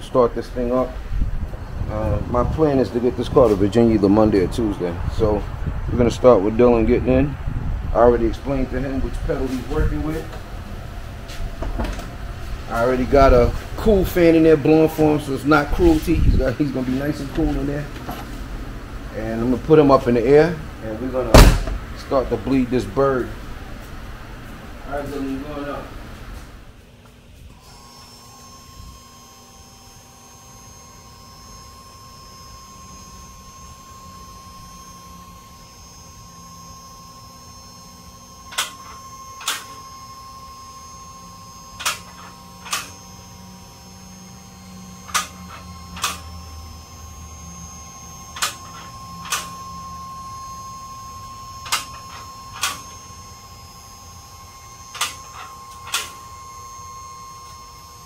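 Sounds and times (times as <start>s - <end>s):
car lift motor humming: 0.0s - 58.0s.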